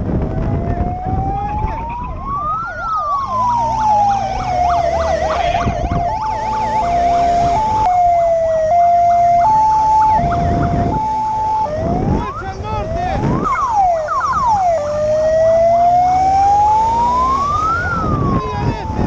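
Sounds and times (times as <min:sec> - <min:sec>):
police siren wail: 0:00.1 - 0:19.0
police siren yelp: 0:00.2 - 0:19.0
two-tone hi-lo siren: 0:00.2 - 0:19.0.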